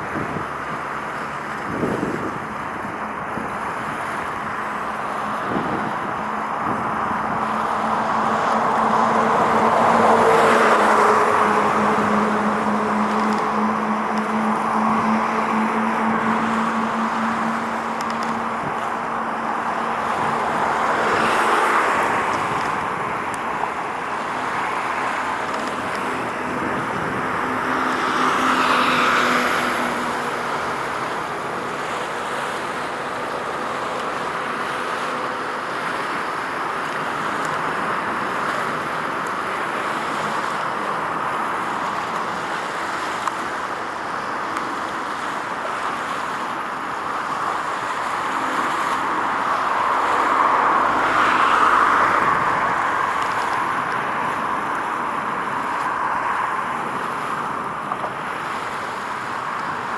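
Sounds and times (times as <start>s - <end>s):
road traffic noise: 0.0s - 59.9s
vehicles passing: 0.0s - 59.9s.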